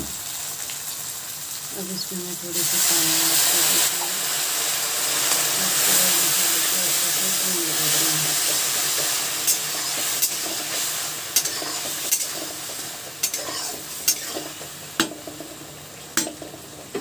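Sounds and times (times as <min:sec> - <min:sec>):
sauce sizzling in a pan: 0:00.0 - 0:17.0.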